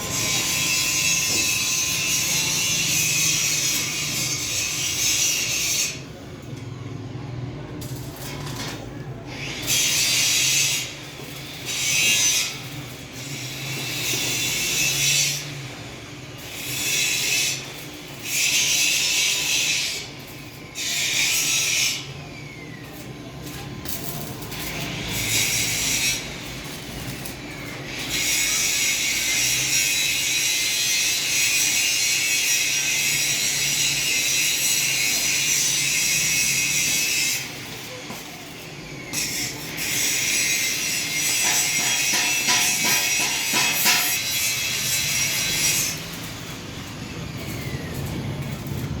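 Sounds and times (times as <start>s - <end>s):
harsh high-pitched welding hiss: 0.0s - 6.0s, 9.5s - 22.2s, 22.8s - 48.9s.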